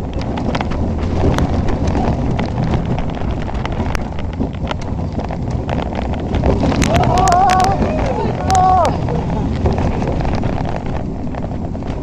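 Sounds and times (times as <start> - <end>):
rapid clicks and rattles: 0.0 - 12.0
train rumbling along track: 0.0 - 12.0
wind rushing over microphone: 0.0 - 12.0.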